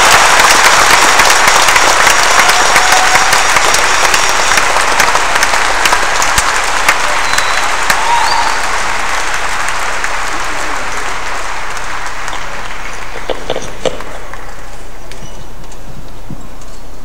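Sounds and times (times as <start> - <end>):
large audience applauding: 0.0 - 15.1.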